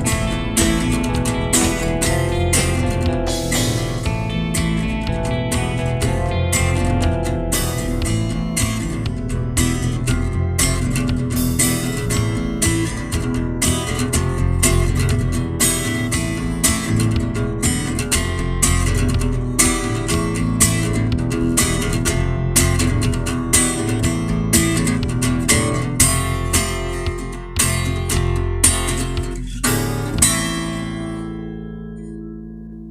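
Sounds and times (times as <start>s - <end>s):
strummed guitar music: 0.0s - 32.9s
sustained low notes: 0.0s - 32.9s.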